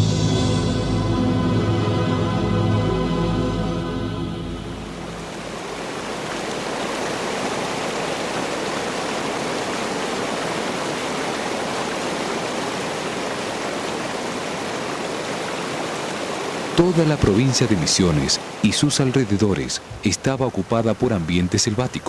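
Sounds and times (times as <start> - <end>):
rushing water: 1.7 - 22.0.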